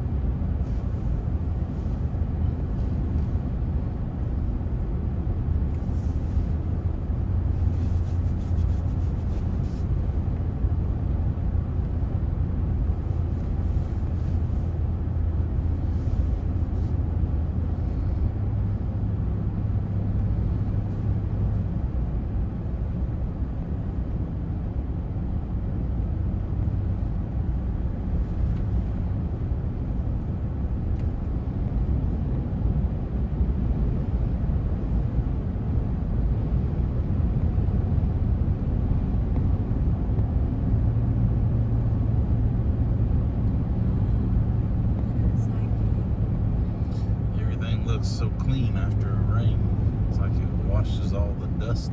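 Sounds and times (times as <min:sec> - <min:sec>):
car engine and road drone: 0:00.0 - 0:51.9.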